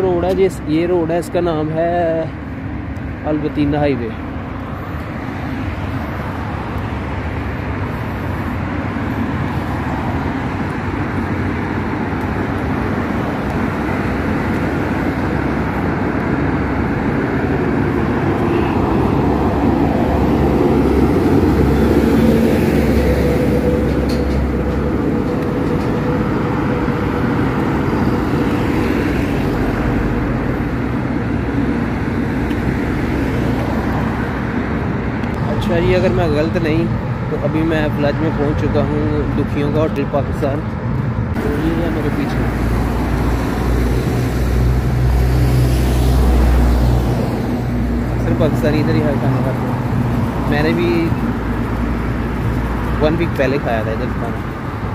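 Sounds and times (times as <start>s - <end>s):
passing cars: 0.0s - 54.9s.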